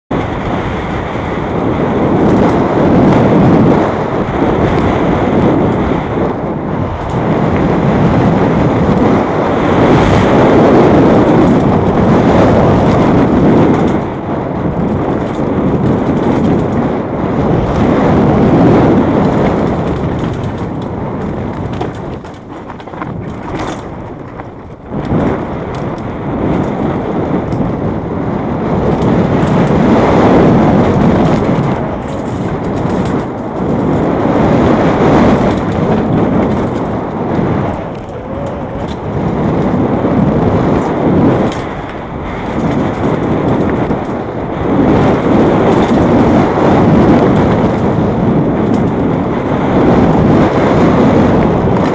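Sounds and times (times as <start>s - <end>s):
wind rushing across microphone: 0.0s - 51.9s
bike rattling: 0.1s - 51.9s
tyres on dirt: 1.2s - 51.9s.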